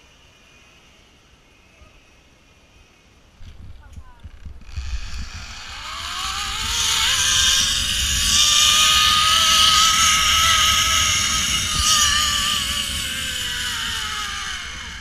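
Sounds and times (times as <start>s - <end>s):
steady rushing hiss: 0.0s - 15.0s
zipline pulleys whirring on cable: 0.0s - 15.0s.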